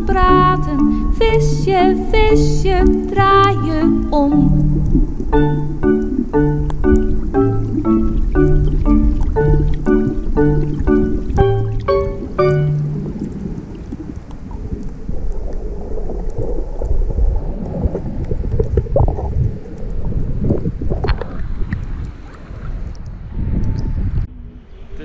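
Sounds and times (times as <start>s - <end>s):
muffled underwater wash: 0.0s - 25.0s
bubbly crackles: 2.6s - 22.8s.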